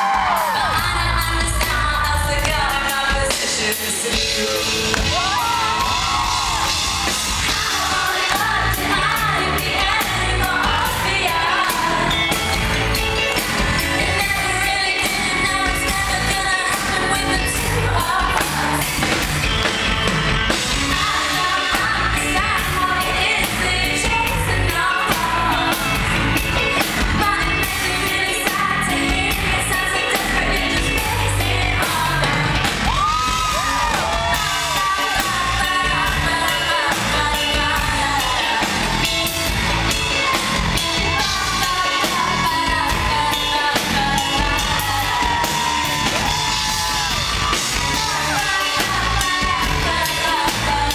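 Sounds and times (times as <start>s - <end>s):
woman singing: 0.0s - 19.2s, 20.7s - 50.9s
live pop band playing: 0.0s - 50.9s.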